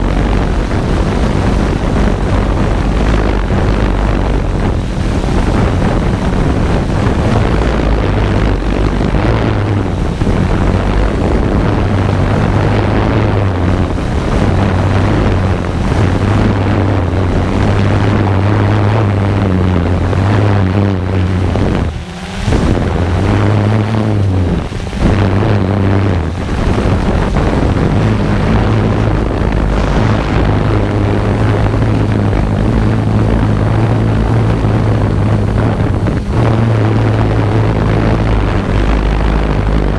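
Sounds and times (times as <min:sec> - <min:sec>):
drone propellers buzzing: 0:00.0 - 0:39.9.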